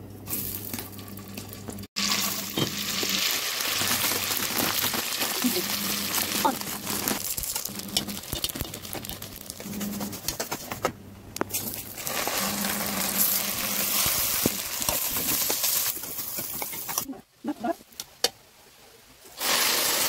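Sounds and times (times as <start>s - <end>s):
food sizzling and crackling in fat: 0.2s - 10.8s, 11.5s - 17.2s, 19.4s - 20.0s.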